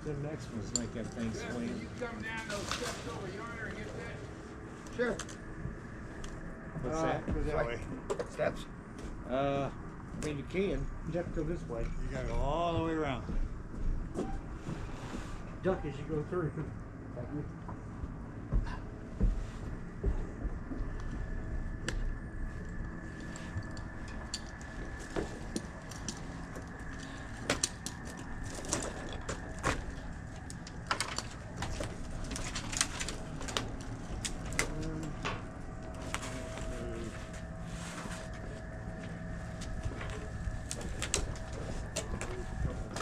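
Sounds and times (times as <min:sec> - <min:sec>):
steady low rumble: 0:00.0 - 0:43.0.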